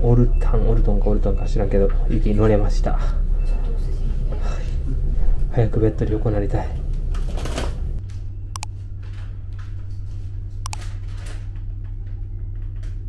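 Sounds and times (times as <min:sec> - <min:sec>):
low electric hum in train: 0:00.0 - 0:13.0.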